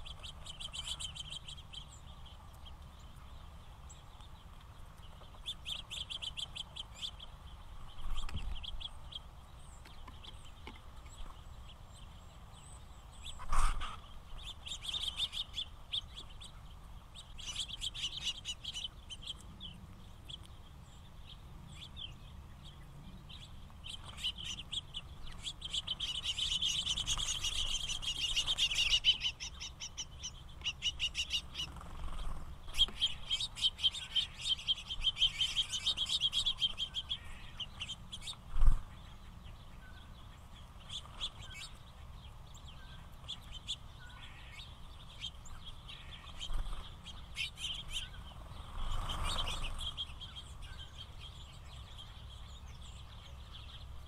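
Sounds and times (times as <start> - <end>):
finches chirping and twittering: 0.0 - 54.0.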